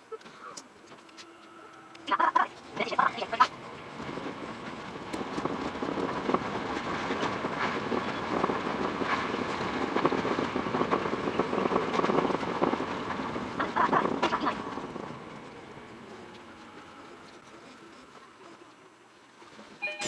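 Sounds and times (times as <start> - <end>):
train rumble on board: 0.0 - 20.0
wheels clicking over track: 0.2 - 18.8.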